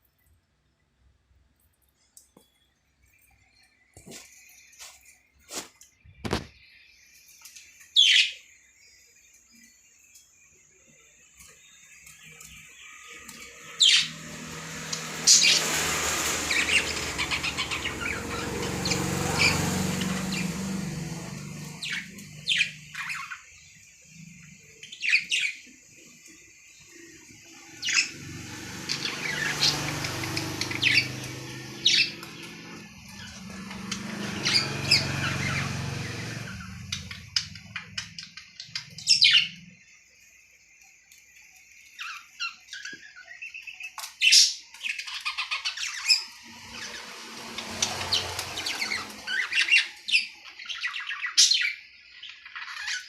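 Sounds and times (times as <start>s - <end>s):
lovebirds chirping: 1.8s - 53.0s.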